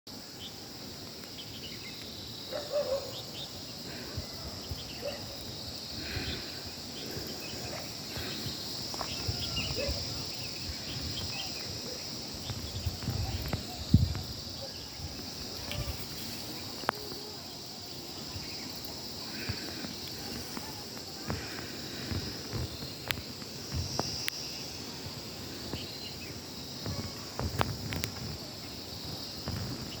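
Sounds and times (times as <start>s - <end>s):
high-pitched insect chorus: 0.1s - 30.0s.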